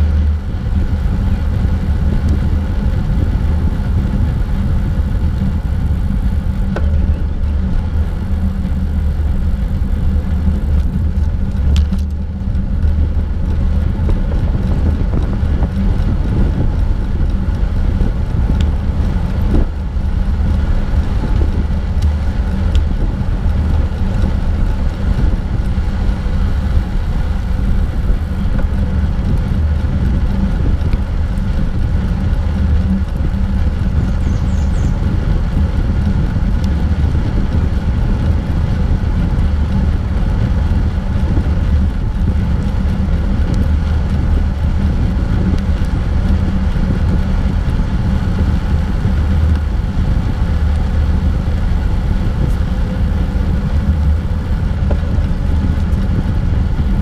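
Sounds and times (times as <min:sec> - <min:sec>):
bicycle tyres rolling on asphalt: 0:00.0 - 0:57.0
wind buffeting microphone: 0:00.0 - 0:57.0.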